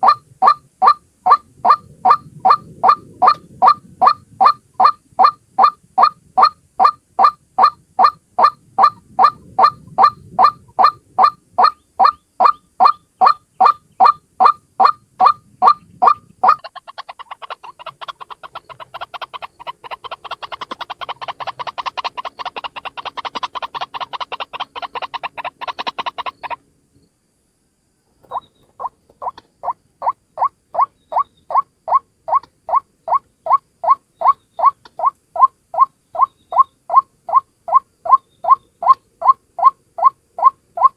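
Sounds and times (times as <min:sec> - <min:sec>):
waterhen croaking calls: 0:00.0 - 0:26.6, 0:28.2 - 0:40.9.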